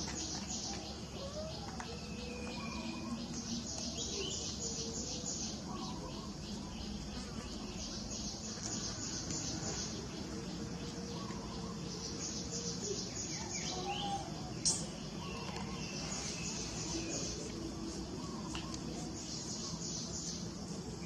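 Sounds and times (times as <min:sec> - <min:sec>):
pulsing insect chirr: 0:00.0 - 0:21.0.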